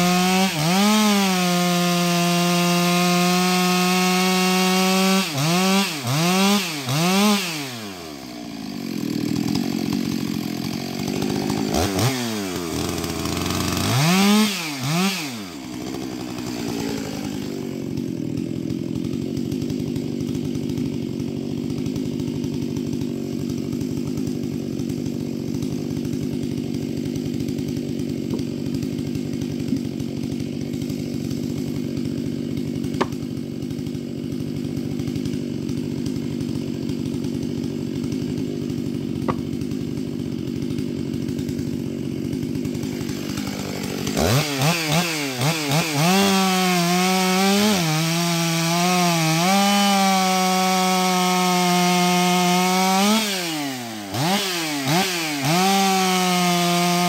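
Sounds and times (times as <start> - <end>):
chainsaw idling and cutting: 0.0 - 57.0
logs knocking down: 5.6 - 57.0.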